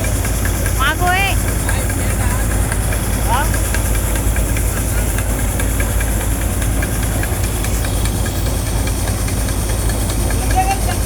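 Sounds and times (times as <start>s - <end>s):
harvester engine humming: 0.0s - 11.0s.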